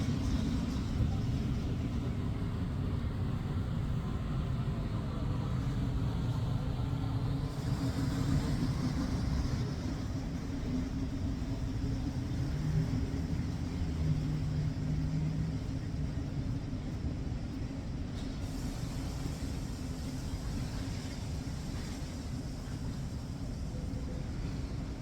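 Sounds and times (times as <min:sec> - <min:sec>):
vehicle engine hum: 0:00.0 - 0:21.1
city traffic rumble: 0:00.0 - 0:25.0.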